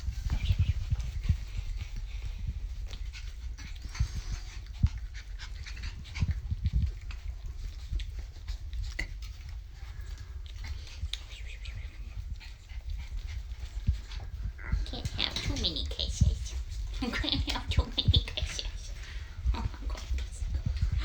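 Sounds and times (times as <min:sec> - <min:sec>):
puppies panting: 0:00.0 - 0:21.0.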